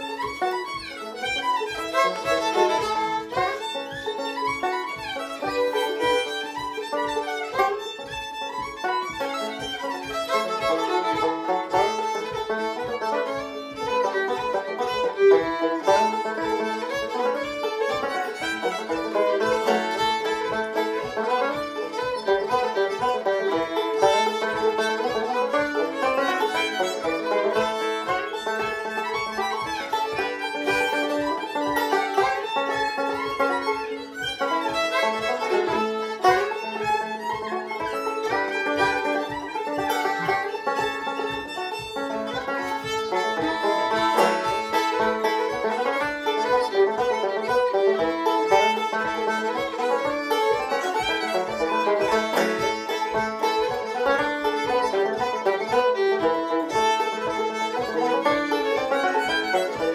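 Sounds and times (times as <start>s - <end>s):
banjo picking: 0.0s - 59.9s
fiddle melody: 0.0s - 59.9s.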